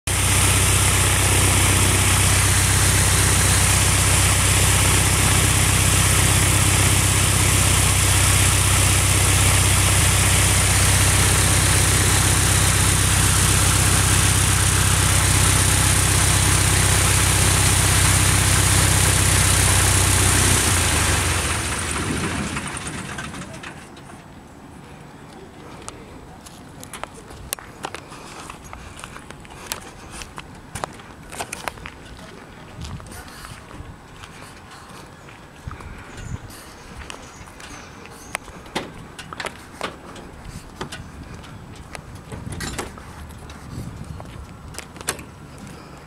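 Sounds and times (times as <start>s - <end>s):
light plane engine and propeller: 0.1s - 30.2s, 31.5s - 46.0s.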